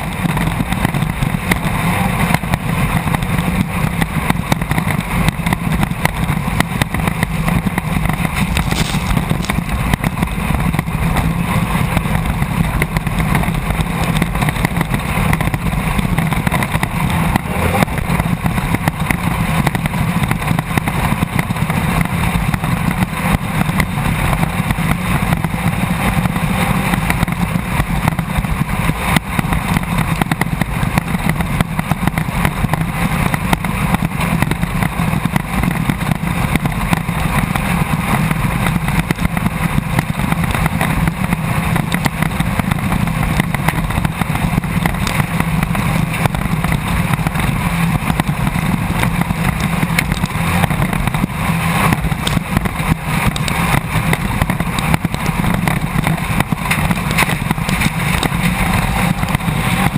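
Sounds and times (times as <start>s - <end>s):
race car engine running: 0.0s - 59.9s
clatter of rattles and knocks: 2.4s - 59.9s.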